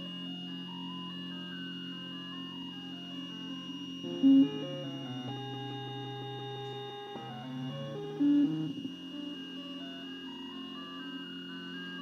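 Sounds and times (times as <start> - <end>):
plotter stepper motors whining: 1.8 - 12.0.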